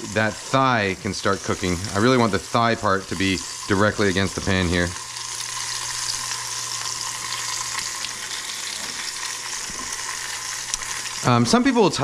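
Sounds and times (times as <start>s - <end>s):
chicken skin sizzling in a skillet: 0.0s - 12.0s.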